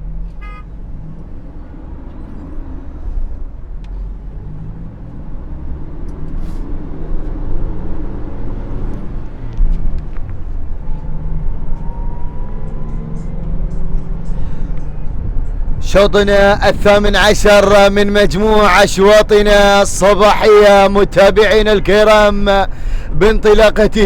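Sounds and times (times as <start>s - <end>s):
road noise: 0.0s - 24.0s
vehicle engine rumble: 0.0s - 24.0s.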